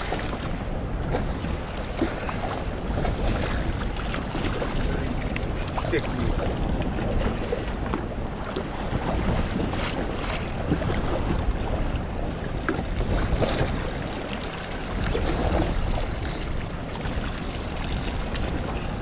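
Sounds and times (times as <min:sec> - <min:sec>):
waves washing against boat hull: 0:00.0 - 0:19.0
wind buffeting microphone: 0:00.0 - 0:19.0.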